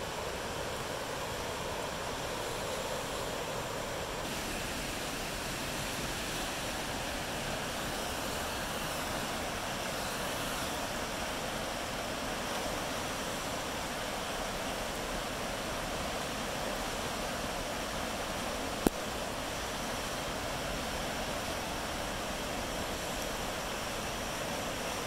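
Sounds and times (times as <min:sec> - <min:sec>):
flooded creek rushing: 0:00.0 - 0:25.0.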